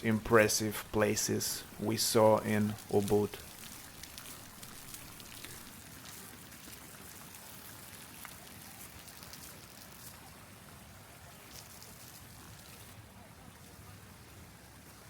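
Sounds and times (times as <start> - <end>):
small water drips: 0.0 - 13.0
water pattering: 0.0 - 13.0.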